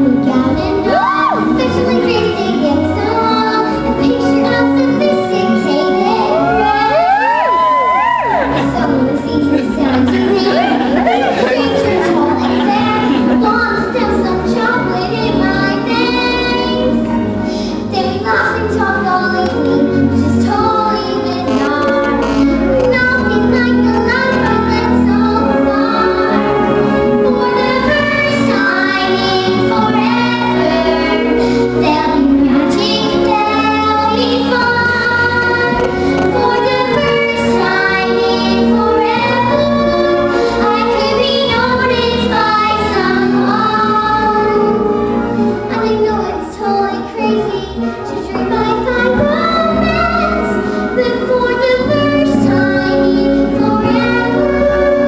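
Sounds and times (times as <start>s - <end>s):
girls singing a duet: 0.0s - 55.0s
instrumental accompaniment: 0.0s - 55.0s.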